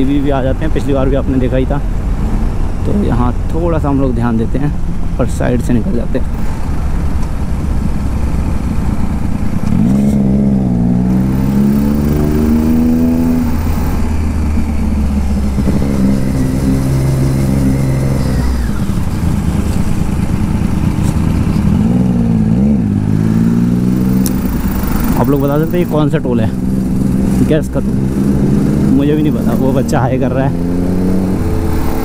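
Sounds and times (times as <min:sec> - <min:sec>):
motorcycle engine revving: 0:06.2 - 0:32.0.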